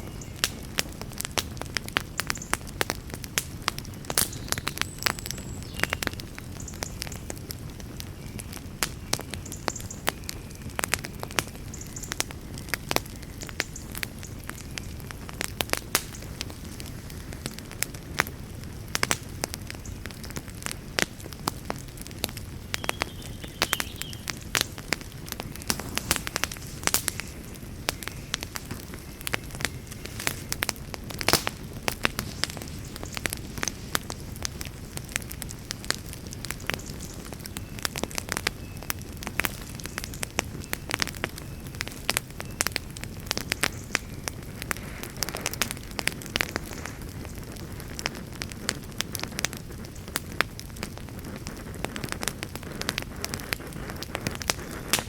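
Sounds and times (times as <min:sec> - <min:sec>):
fire crackles and pops: 0:00.0 - 0:55.0
fire flame rumble: 0:00.0 - 0:55.0.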